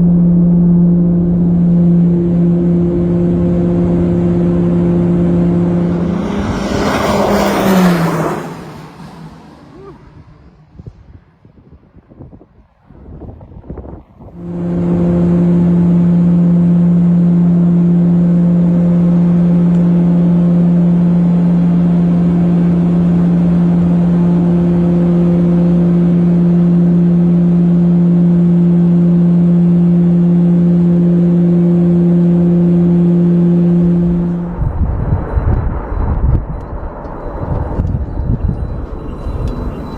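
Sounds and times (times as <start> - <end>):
aircraft engines droning: 0.0 - 39.9.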